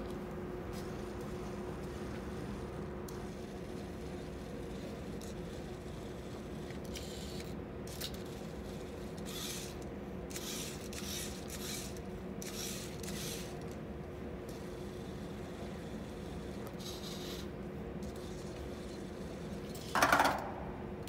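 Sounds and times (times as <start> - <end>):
steady low hum: 0.0 - 21.0
robot motors whirring: 0.8 - 13.8, 14.5 - 19.9.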